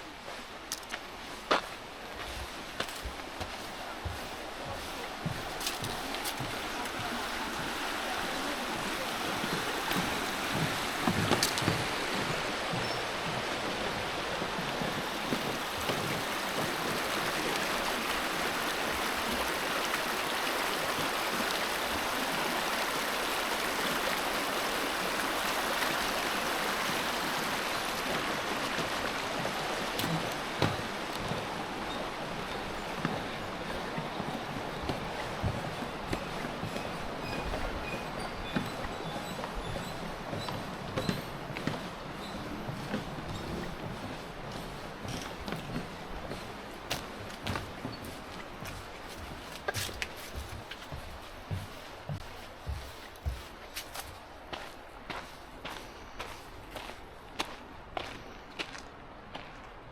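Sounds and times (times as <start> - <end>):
river water rushing over rapids: 0.0 - 55.6.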